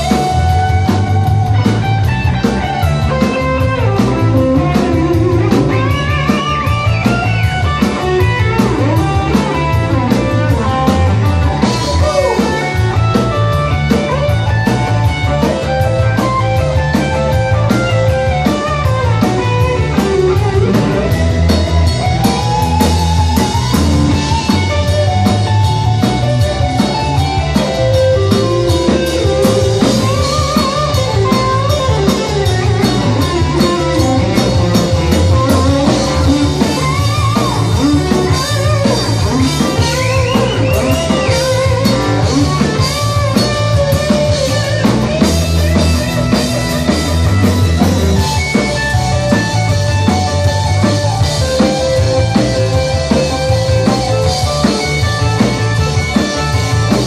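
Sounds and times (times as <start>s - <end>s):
bass guitar: 0.0s - 57.0s
drum beat: 0.0s - 57.0s
electric guitar solo: 0.0s - 57.0s.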